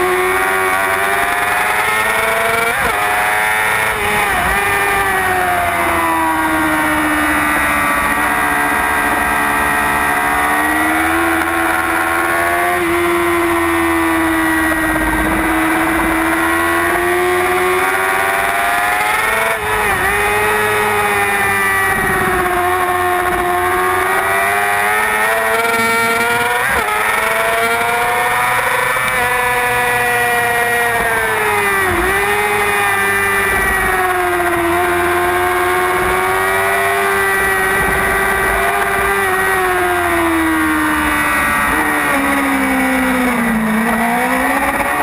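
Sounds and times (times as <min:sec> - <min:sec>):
motorcycle engine revving high: 0:00.0 - 0:45.0.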